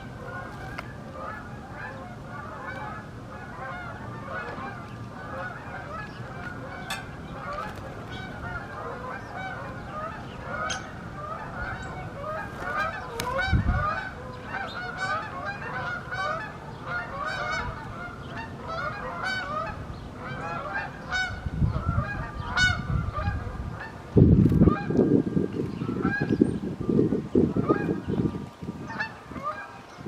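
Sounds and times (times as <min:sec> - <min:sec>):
geese honking: 0:00.0 - 0:26.6, 0:27.3 - 0:30.0.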